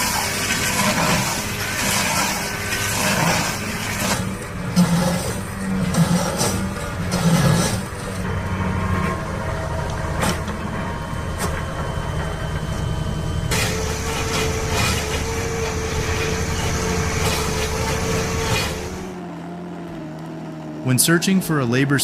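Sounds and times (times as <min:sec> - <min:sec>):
heavy machinery running: 0:00.0 - 0:22.0
machine running with steady whine: 0:00.0 - 0:22.0.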